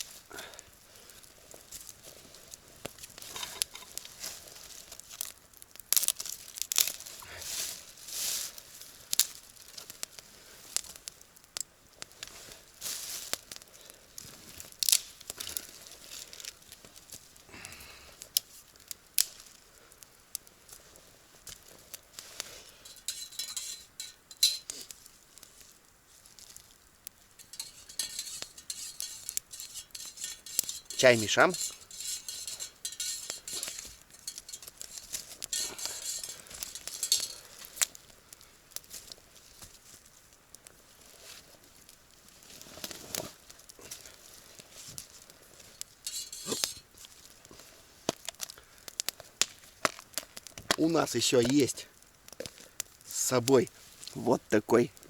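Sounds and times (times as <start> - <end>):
campfire crackling: 0.0 - 55.0
dry twigs and leaves rustling: 0.0 - 55.0.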